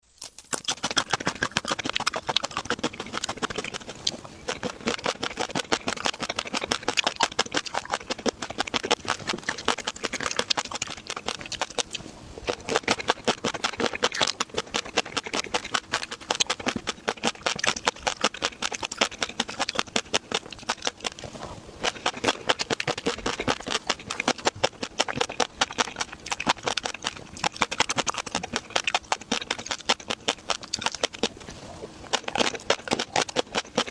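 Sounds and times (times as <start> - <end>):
chewing with wet crunches: 0.2 - 33.9.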